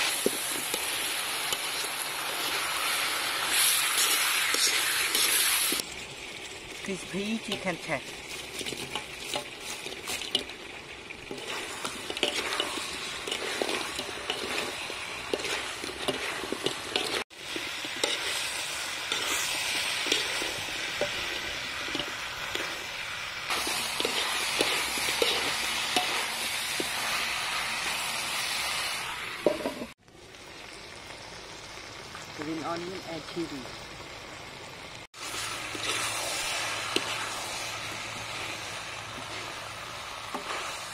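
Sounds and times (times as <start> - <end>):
food sizzling in a wok: 0.0 - 40.9.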